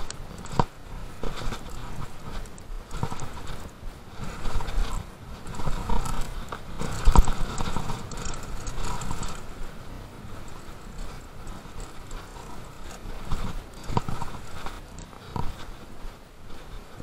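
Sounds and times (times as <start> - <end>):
mountain bike rattling: 0.0 - 17.0.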